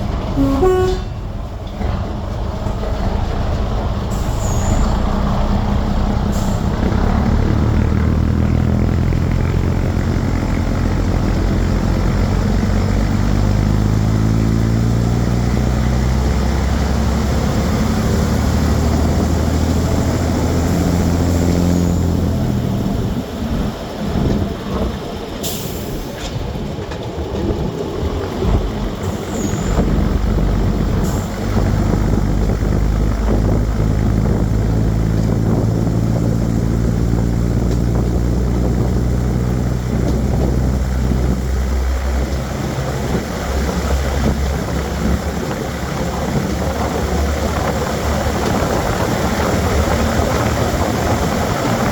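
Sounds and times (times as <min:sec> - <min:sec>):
diesel train engine pulling away: 0:00.0 - 0:51.9.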